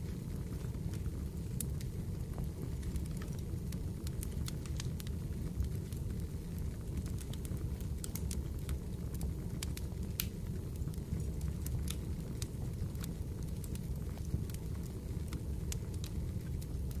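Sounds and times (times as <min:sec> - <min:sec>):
fireplace crackling and popping: 0:00.0 - 0:17.0.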